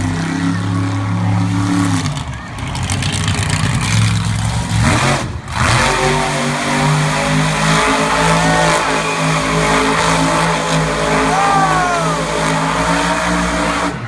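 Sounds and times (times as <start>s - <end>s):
monster truck engine running: 0.0s - 14.0s.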